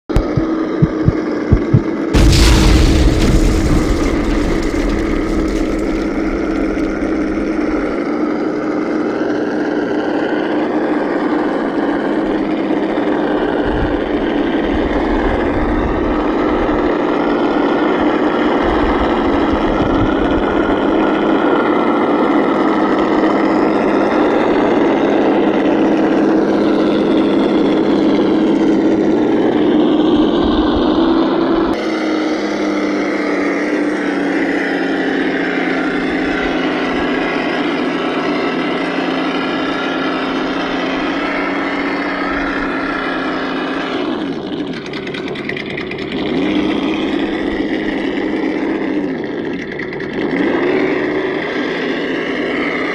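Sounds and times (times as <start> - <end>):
simulated engine sound: 0.0 - 52.9
electric drivetrain whine: 0.1 - 52.9.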